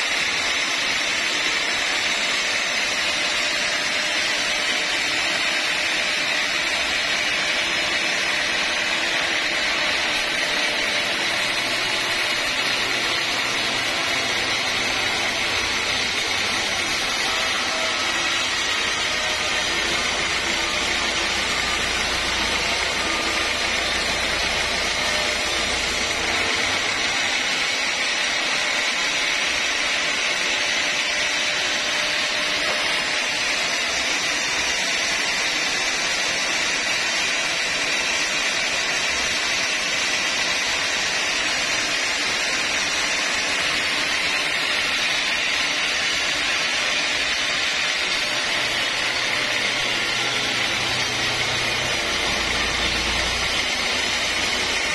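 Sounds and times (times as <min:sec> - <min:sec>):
band saw cutting through log: 0:00.0 - 0:54.9.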